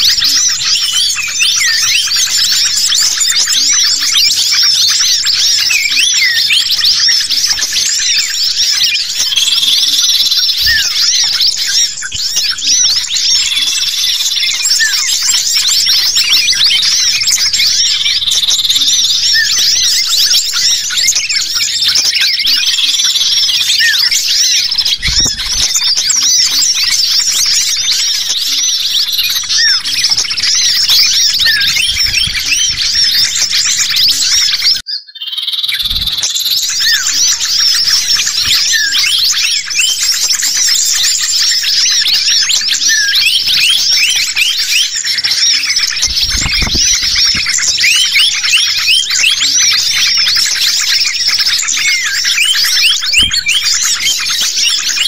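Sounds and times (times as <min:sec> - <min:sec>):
songbirds chirping and whistling: 0:00.0 - 0:55.0.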